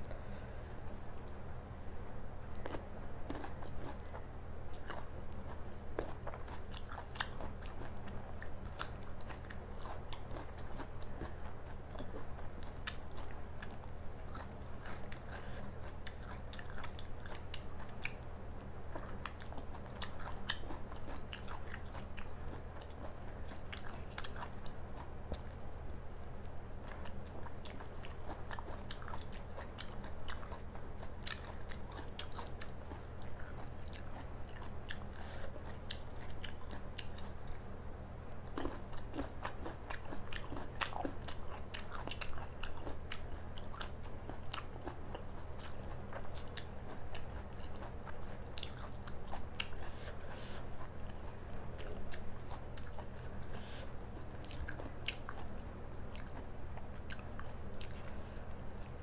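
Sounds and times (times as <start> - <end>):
low electrical hum: 0.0 - 59.0
chewing crunchy food: 2.5 - 59.0.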